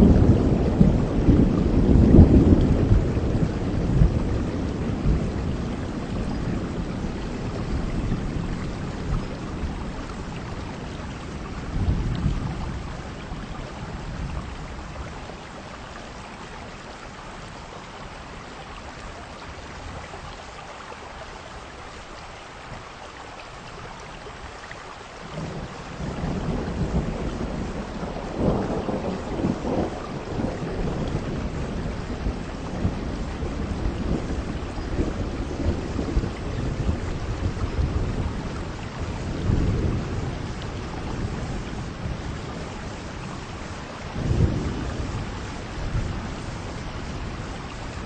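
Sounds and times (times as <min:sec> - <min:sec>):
heavy rain: 0:00.0 - 0:48.0
wind: 0:00.0 - 0:48.0.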